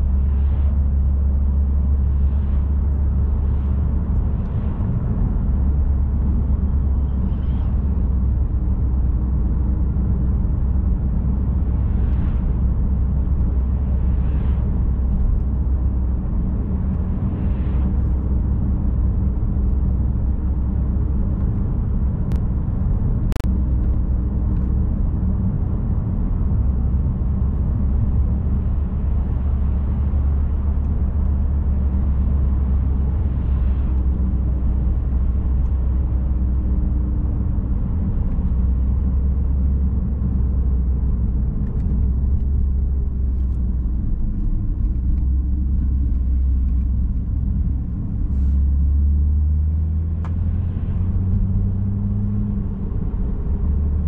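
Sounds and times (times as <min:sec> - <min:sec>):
car engine hum: 0:00.0 - 0:54.0
tyre and road rumble: 0:00.0 - 0:54.0.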